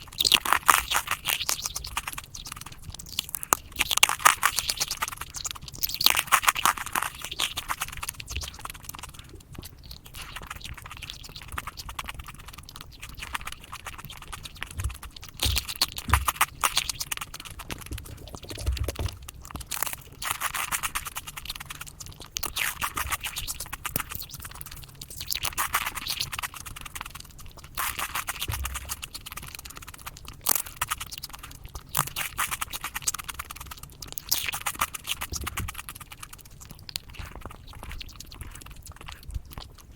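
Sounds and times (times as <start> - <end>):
sped-up chocolate crunching: 0.0 - 39.9.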